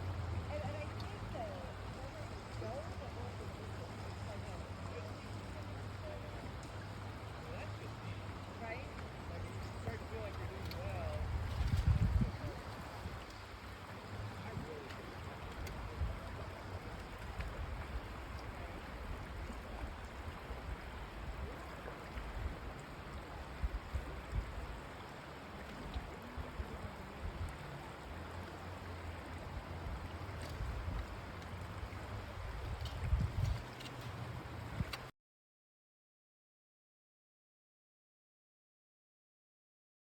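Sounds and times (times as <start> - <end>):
river water rushing: 0.0 - 35.1.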